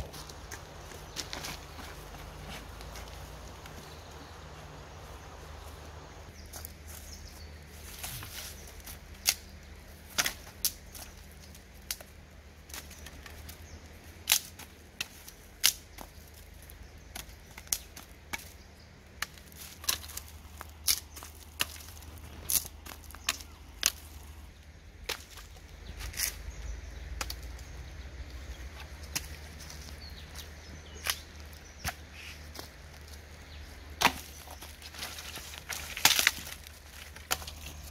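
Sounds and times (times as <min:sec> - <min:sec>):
dry branches snapping: 0:00.0 - 0:04.3, 0:07.9 - 0:24.4, 0:25.0 - 0:27.7, 0:28.3 - 0:37.9.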